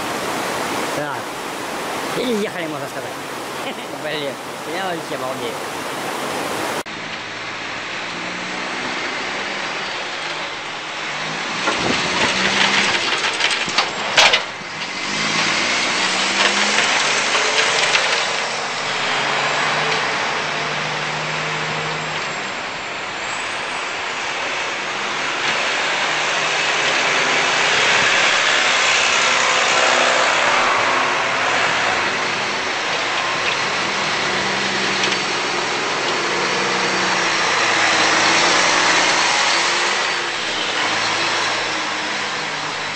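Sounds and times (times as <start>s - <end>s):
plow blade pushing through snow: 0.0s - 42.9s
truck engine running: 6.8s - 42.9s.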